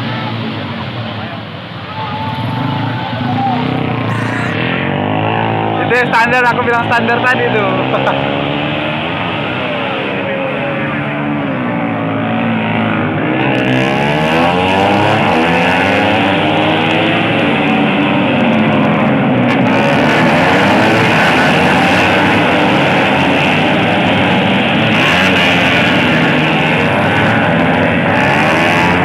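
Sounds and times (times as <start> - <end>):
race motorcycles revving: 0.0 - 29.0.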